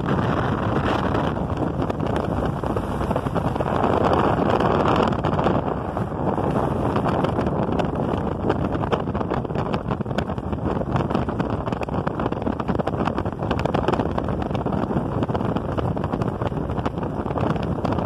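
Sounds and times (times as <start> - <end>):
vehicle driving on dirt road: 0.0 - 18.0
wind rushing over microphone: 0.0 - 18.0.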